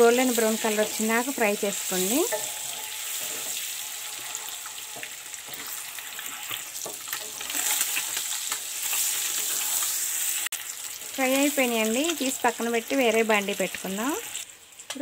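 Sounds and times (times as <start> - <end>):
eggs sizzling in hot oil: 0.0 - 15.0.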